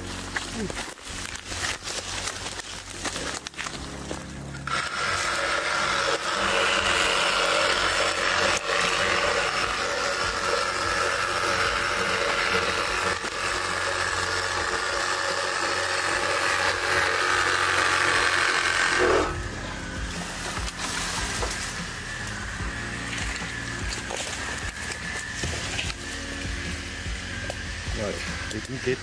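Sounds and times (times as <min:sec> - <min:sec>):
power saw cutting branches: 0:00.0 - 0:29.0.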